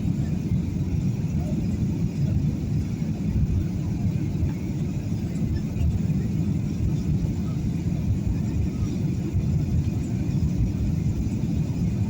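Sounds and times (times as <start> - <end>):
jet engines and airflow rumble: 0.0 - 12.0.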